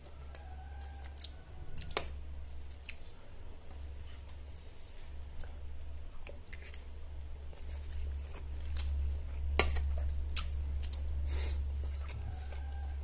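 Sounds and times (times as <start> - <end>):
chewing and wet mouth sounds: 0.0 - 13.0
steady low hum: 0.0 - 13.0.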